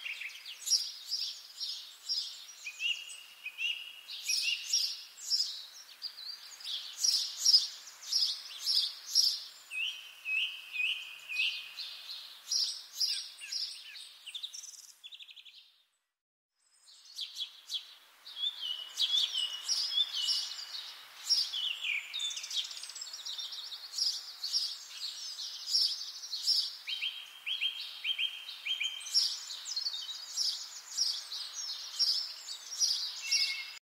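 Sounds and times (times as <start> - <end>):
songbirds chirping and trilling: 0.0 - 16.0, 16.6 - 33.8.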